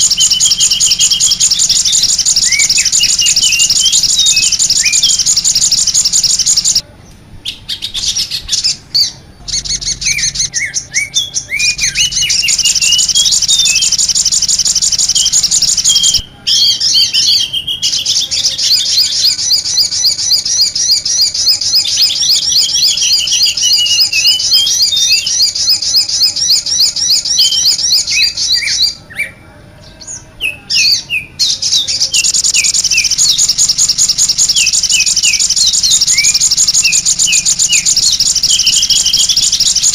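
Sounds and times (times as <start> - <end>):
many small birds chirping: 0.0 - 6.8, 7.5 - 39.9.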